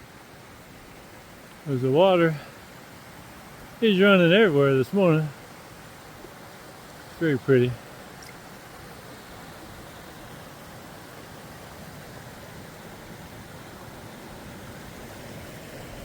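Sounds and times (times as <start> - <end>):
runoff water rushing: 0.0 - 16.0.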